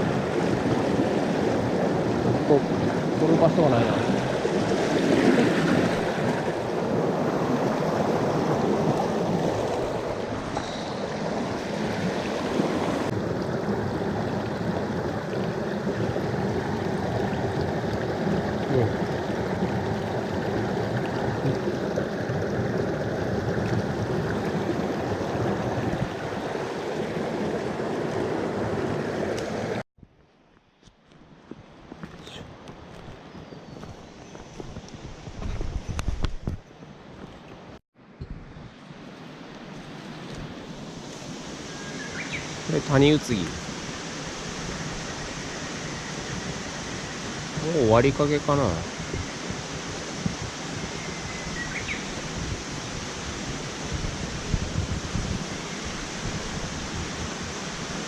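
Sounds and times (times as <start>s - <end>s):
mountain stream rushing: 0.0s - 29.8s, 31.9s - 58.0s.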